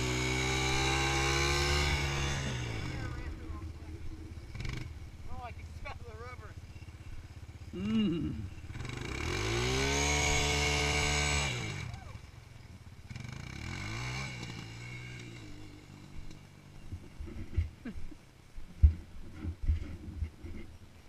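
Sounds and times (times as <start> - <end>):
quad bike engine revving: 0.0 - 17.8.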